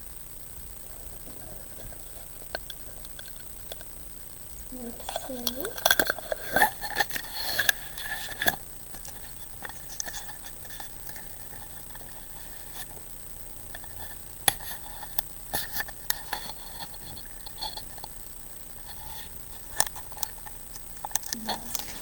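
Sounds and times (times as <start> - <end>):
faint high-pitched whine: 0.0 - 22.0.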